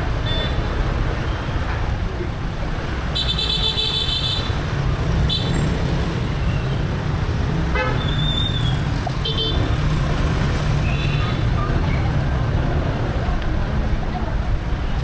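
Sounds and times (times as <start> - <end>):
motorbike engines rumbling: 0.0 - 15.0.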